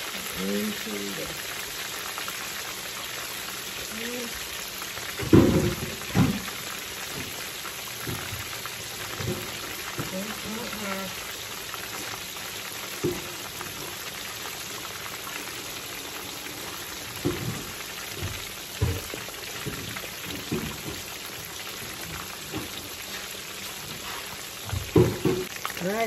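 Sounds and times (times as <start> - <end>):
fish deep-frying in hot oil: 0.0 - 26.0.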